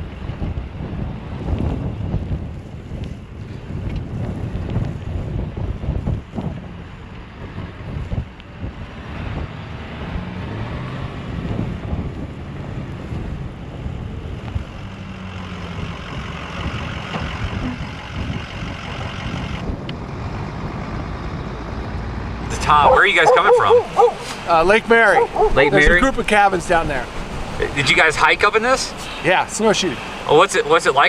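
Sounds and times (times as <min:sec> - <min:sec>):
wind gusting across microphone: 0:00.0 - 0:31.0
vehicle engine running low: 0:00.1 - 0:30.8.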